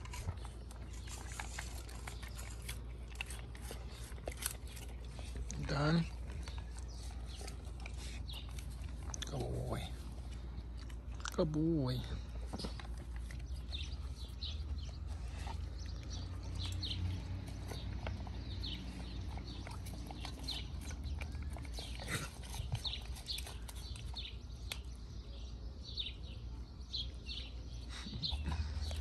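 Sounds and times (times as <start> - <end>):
dog chewing and lapping: 0.0 - 24.9.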